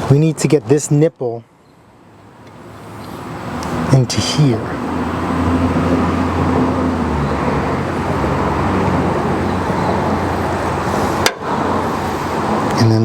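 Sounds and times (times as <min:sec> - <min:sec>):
road noise: 0:00.0 - 0:13.0
vehicle engine humming: 0:01.8 - 0:13.0.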